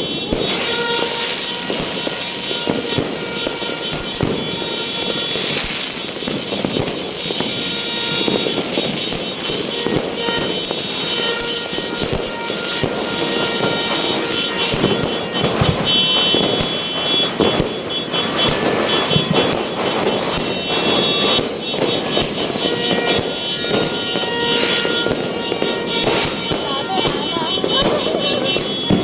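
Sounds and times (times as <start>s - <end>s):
fireworks crackling and popping: 0.0s - 29.0s.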